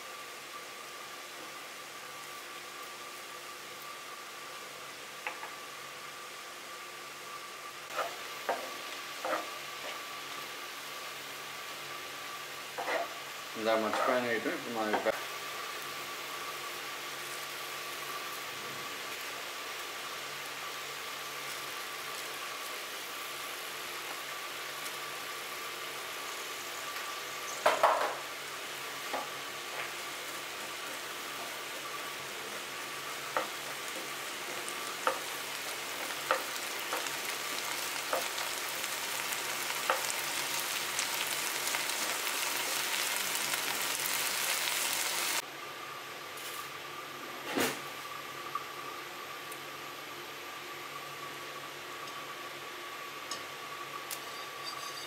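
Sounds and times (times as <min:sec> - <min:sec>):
vegetables sizzling in oil: 0:00.0 - 0:45.5.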